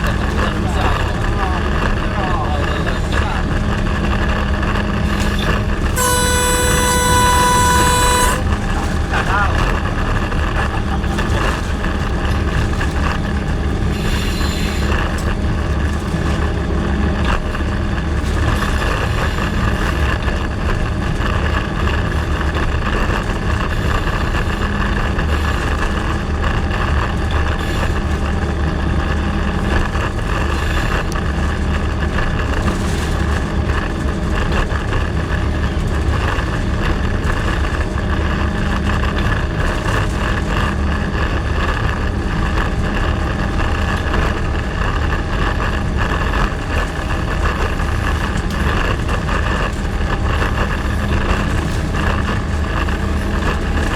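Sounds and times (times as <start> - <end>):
diesel locomotive engine drone: 0.0 - 53.9
wheel and rail noise: 0.0 - 53.9.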